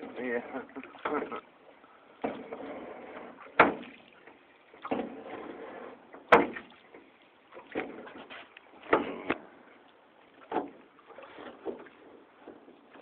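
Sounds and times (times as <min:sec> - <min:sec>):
paddles knocking and splashing water: 0:00.0 - 0:13.0.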